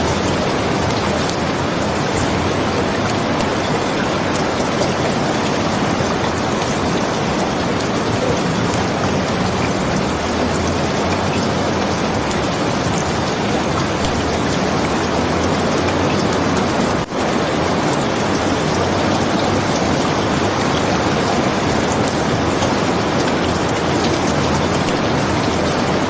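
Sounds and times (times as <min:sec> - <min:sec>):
raindrops ticking: 0:00.0 - 0:26.0
steady rainfall: 0:00.0 - 0:26.0.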